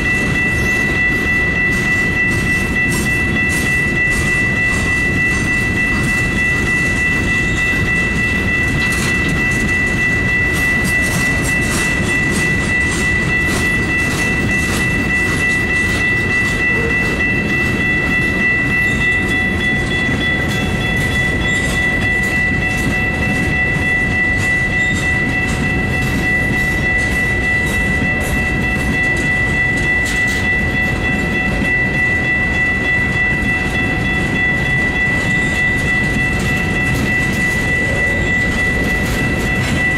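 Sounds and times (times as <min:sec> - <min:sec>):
high-pitched whine: 0:00.0 - 0:39.9
train wheels rumbling on rail: 0:00.0 - 0:39.9.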